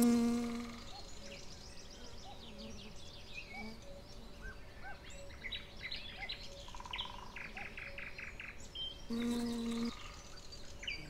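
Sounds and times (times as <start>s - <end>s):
wild birds singing: 0.0s - 11.0s.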